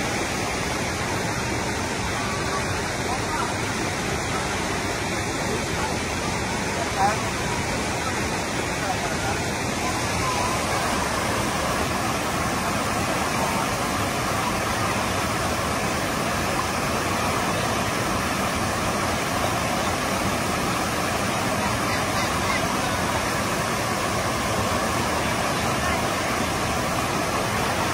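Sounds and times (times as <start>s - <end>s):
water rushing over rock: 0.0s - 27.9s.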